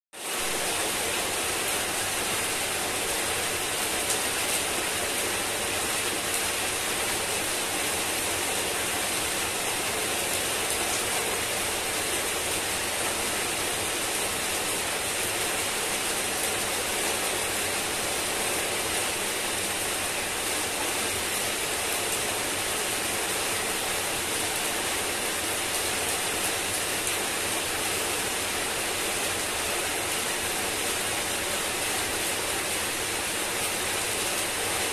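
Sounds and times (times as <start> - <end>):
heavy rain on pavement: 0.2 - 34.9.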